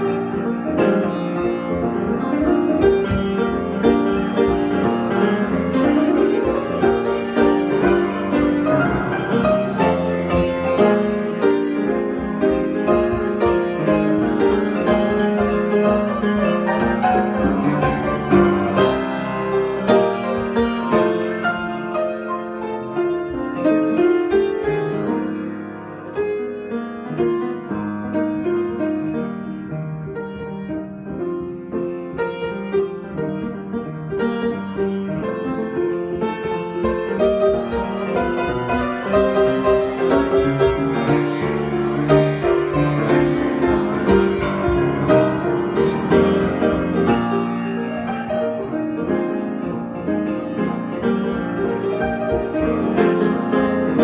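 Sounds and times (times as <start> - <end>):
solo piano improvisation: 0.0 - 54.0.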